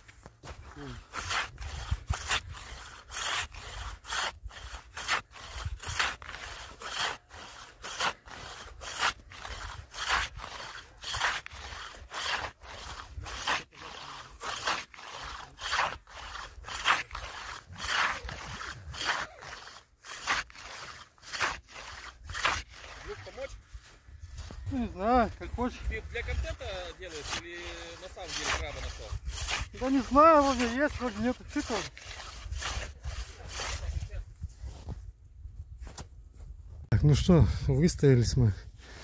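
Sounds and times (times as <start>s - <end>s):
hand saw rasping through ice: 0.0s - 35.0s.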